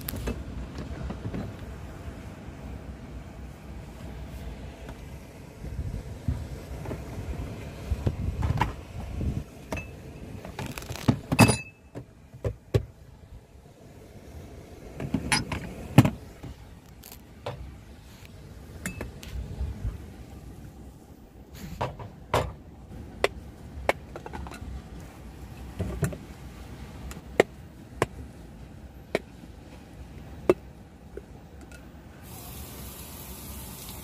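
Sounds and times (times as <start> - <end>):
low steady rumble: 0.0 - 34.0.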